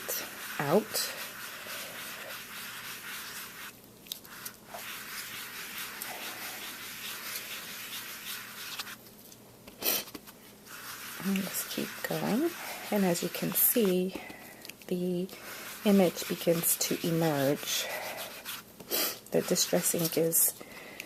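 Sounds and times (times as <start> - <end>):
sponge rubbing on cardstock: 0.0 - 9.0, 10.0 - 14.3, 15.0 - 18.7, 19.4 - 20.4.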